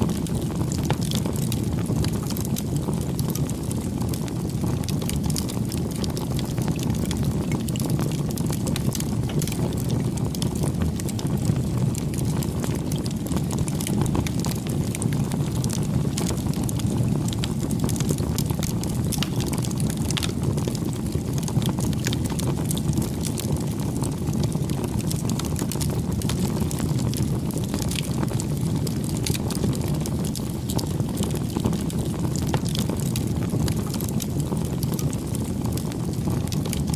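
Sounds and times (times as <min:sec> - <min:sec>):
burning wood crackling and popping: 0:00.0 - 0:36.9
campfire flames rumbling: 0:00.0 - 0:36.9.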